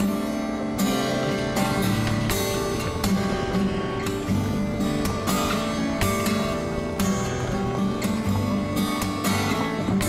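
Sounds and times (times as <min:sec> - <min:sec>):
fingerstyle acoustic guitar: 0:00.0 - 0:10.0
percussive strikes on guitar: 0:00.0 - 0:10.0.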